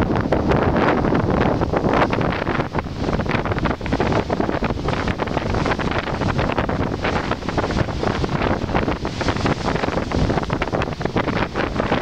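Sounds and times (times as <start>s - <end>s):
wind buffeting microphone: 0.0s - 12.0s
waves breaking on shore: 0.1s - 12.0s.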